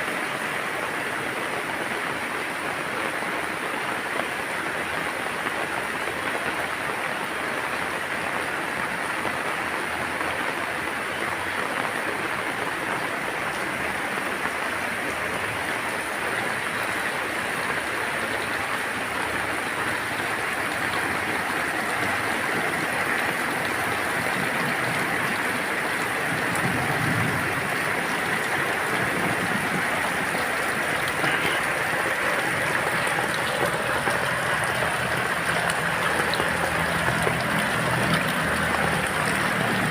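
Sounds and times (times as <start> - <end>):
rain falling on plants: 0.0 - 39.9.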